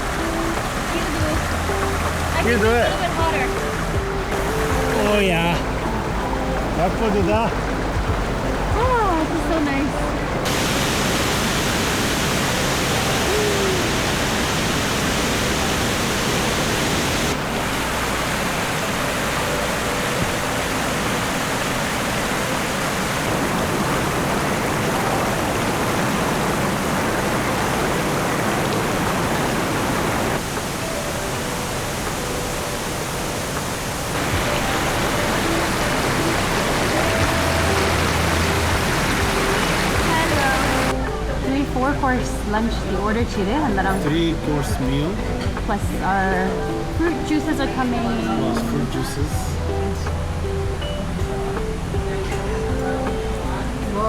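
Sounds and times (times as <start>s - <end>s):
cascading water rushing: 0.0s - 54.0s.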